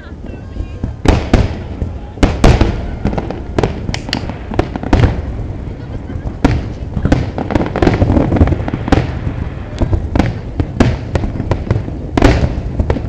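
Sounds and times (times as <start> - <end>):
fireworks bangs and cracks: 0.0 - 13.0
low rumble of distant detonations: 0.0 - 13.0.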